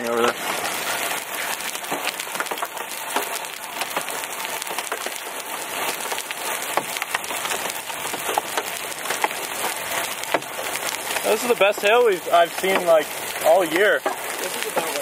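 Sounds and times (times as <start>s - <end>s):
hail clattering on car: 0.0s - 15.0s
rain hiss: 0.0s - 15.0s.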